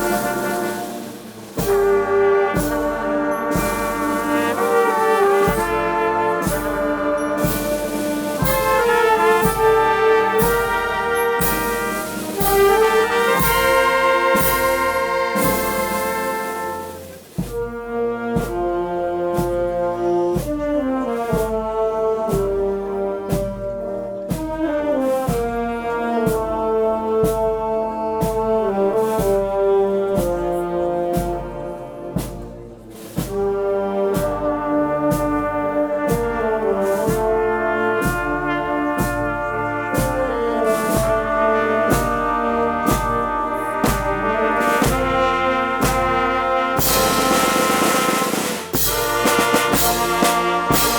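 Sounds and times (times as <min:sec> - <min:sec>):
brass band playing a march: 0:00.0 - 0:50.9
steady drum beat: 0:00.0 - 0:50.9.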